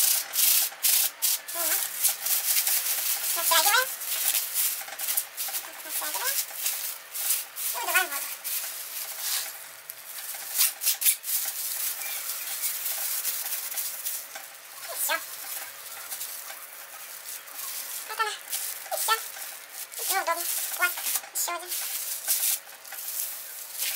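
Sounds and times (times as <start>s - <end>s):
plastic bags crinkling: 0.0s - 23.9s.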